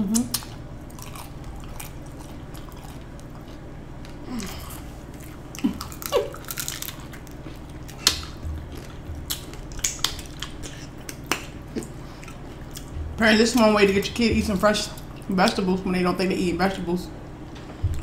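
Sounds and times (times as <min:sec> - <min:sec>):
wet chewing: 0:00.1 - 0:15.6
crunching hard tacos: 0:00.4 - 0:15.2.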